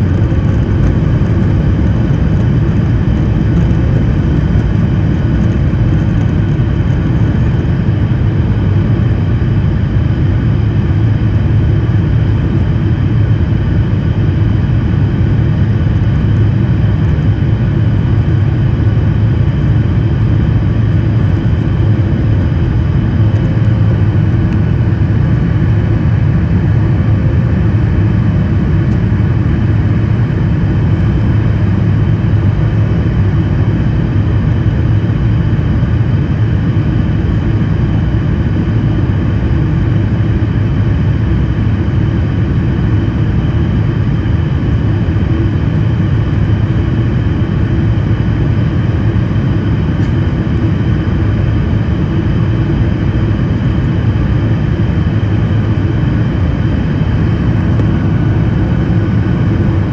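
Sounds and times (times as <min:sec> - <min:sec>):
faint steady engine tones: 0:00.0 - 0:59.9
jet engines deep rumble: 0:00.0 - 0:59.9.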